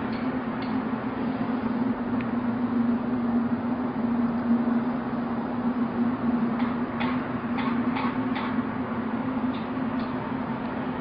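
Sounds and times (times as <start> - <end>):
low droning hum: 0.0 - 11.0.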